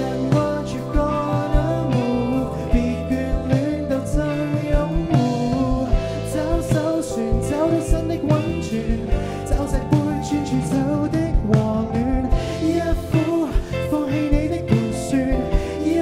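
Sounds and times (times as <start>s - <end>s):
person singing: 0.0s - 16.0s
pop-rock band music: 0.0s - 16.0s.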